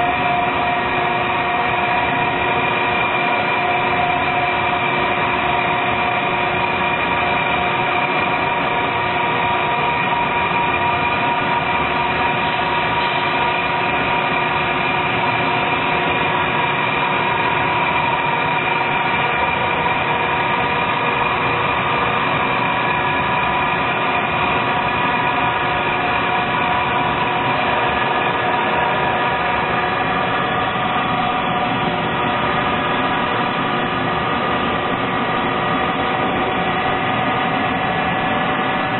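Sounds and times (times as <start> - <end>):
grinding machine whining: 0.0 - 38.9.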